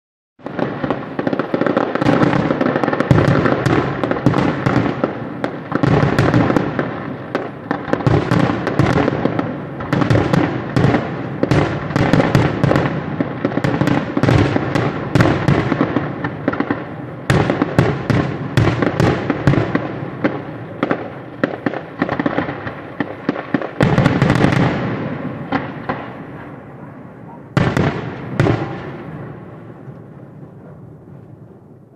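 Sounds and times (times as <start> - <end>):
fireworks bursting: 0.4 - 31.9.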